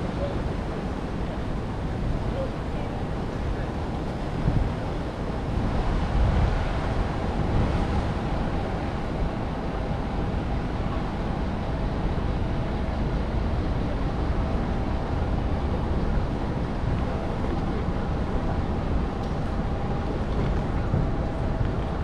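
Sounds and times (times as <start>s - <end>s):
low street rumble: 0.0s - 22.0s.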